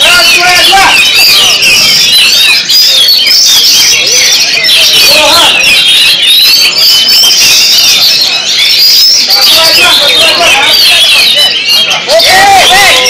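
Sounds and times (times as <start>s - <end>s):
faint crowd voices: 0.0s - 13.0s
songbirds chirping and trilling: 0.0s - 13.0s.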